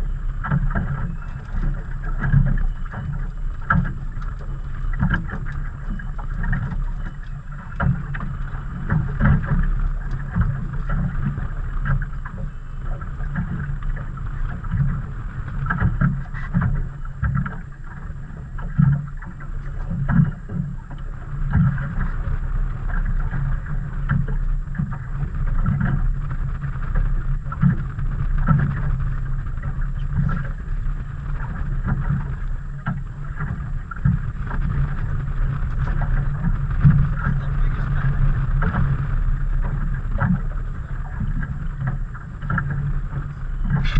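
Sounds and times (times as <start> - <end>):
water slapping against boat hull: 0.0 - 43.9
wind on microphone: 0.0 - 43.9.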